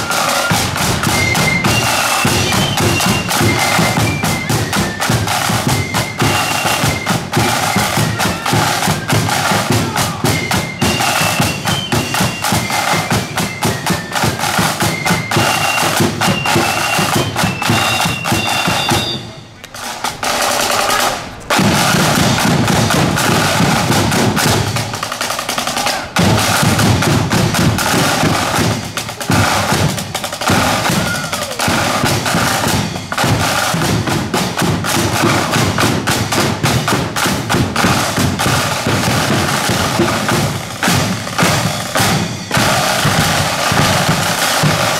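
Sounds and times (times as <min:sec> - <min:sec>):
marching band melody: 0:00.0 - 0:44.9
snare and bass drums marching beat: 0:00.0 - 0:44.9.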